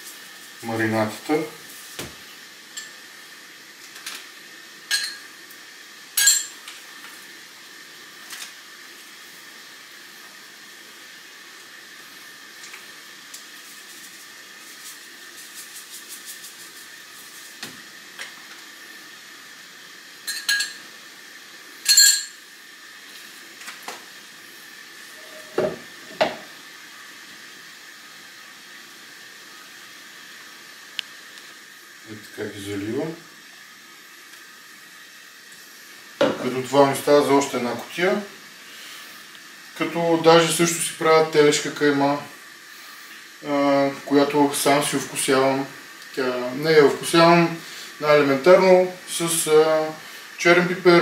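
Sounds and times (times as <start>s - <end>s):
faint steady hiss: 0.0s - 51.0s.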